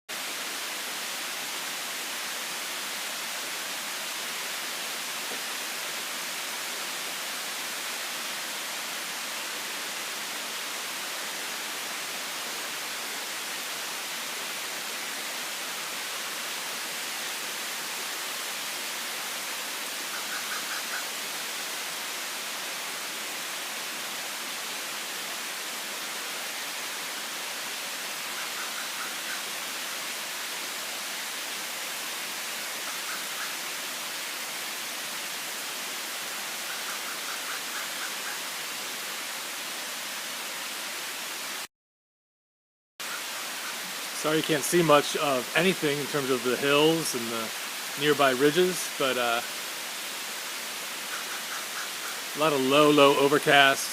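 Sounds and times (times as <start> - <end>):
heavy rain falling: 0.1 - 41.7, 43.0 - 53.9.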